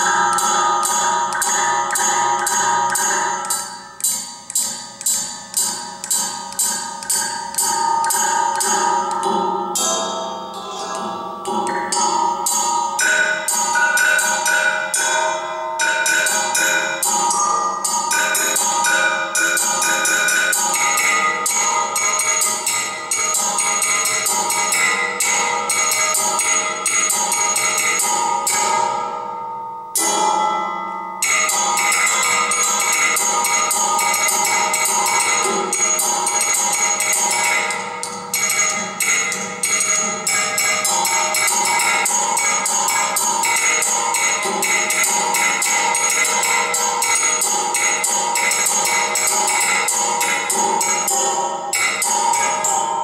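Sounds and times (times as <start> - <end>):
metal rods struck with sticks: 0.0 - 29.2, 30.0 - 30.4, 31.2 - 53.0.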